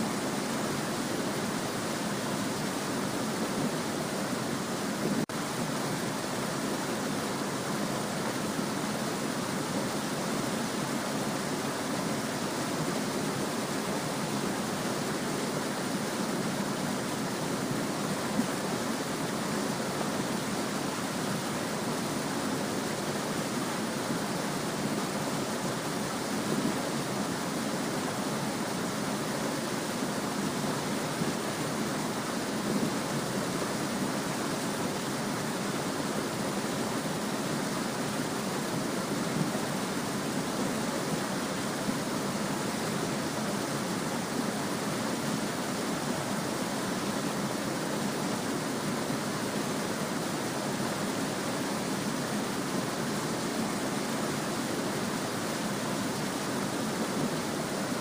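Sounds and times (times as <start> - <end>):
small stream running: 0.0 - 58.0.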